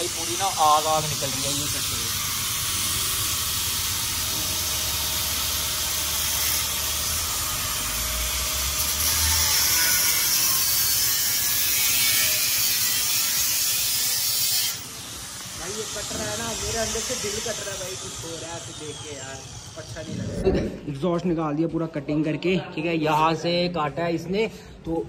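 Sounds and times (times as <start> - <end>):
angle grinder cutting metal pipe: 0.0 - 20.1.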